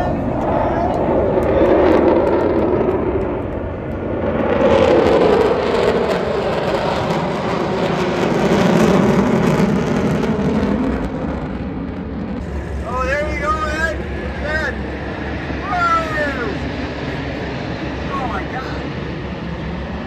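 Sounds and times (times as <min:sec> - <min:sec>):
military jets flying overhead: 0:00.0 - 0:20.0.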